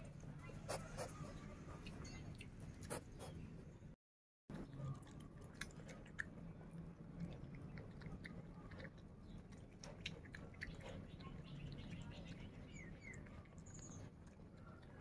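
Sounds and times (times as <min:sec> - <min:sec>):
piglet chewing: 0:00.0 - 0:03.6, 0:04.5 - 0:15.0.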